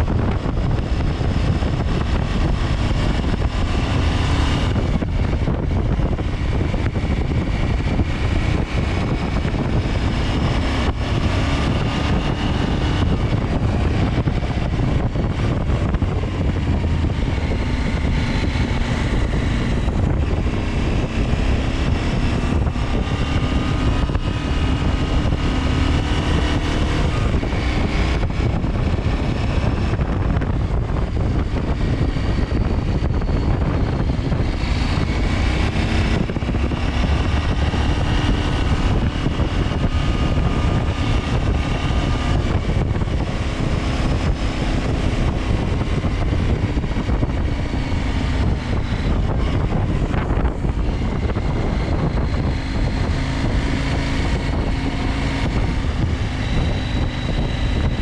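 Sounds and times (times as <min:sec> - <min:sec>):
motorcycle engine running: 0:00.0 - 0:58.0
wind rush over microphone: 0:00.0 - 0:58.0.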